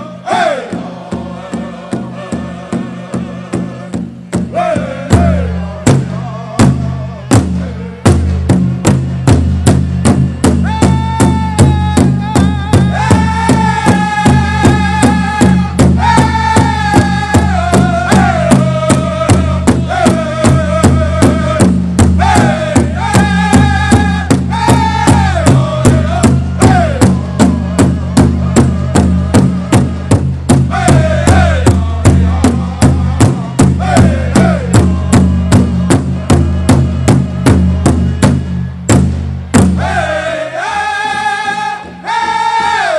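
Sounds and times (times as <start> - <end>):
large drum beating steadily: 0.0 - 40.4.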